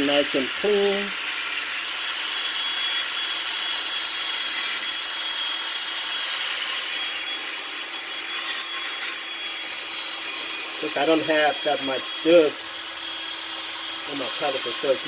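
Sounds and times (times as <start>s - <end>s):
wire brush scrubbing metal: 0.0s - 15.0s.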